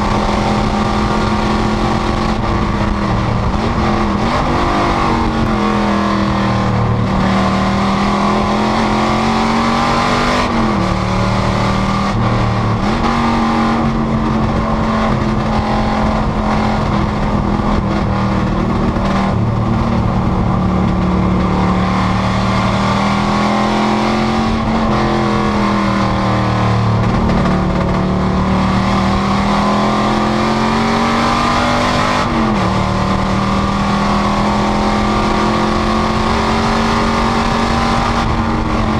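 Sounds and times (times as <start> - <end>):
race car engine running hard: 0.0 - 38.9.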